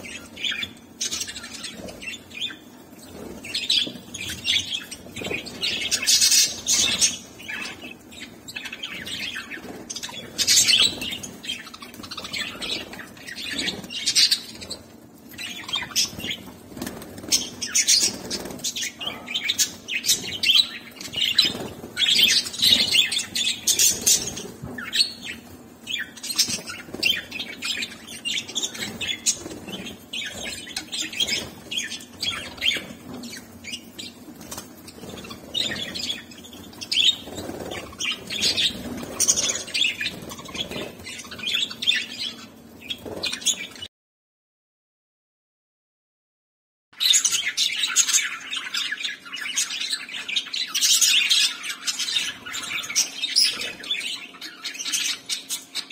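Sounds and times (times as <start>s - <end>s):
budgerigars chirping: 0.0s - 43.8s, 47.0s - 55.9s.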